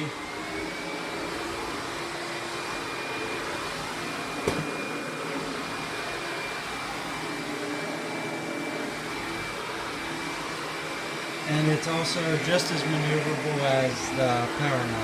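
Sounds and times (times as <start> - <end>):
upright vacuum running: 0.0 - 15.0.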